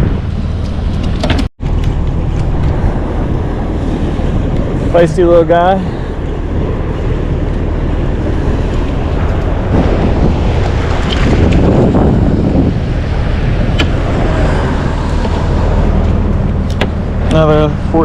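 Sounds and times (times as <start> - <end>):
steady low hum: 0.0 - 18.0
water slapping boat hull: 0.0 - 18.0
wind buffeting microphone: 0.0 - 18.0.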